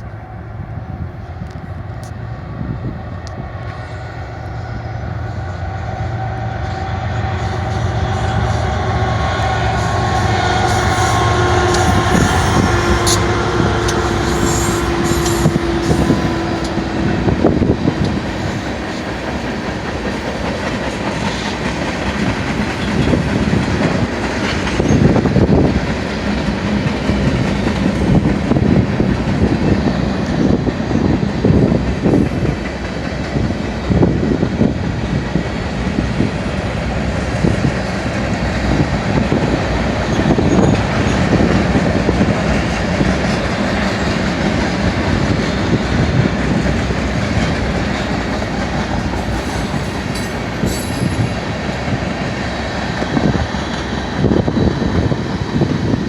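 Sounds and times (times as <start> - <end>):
diesel locomotive drone: 0.0 - 56.0
train wheels clattering on rails: 6.4 - 56.0.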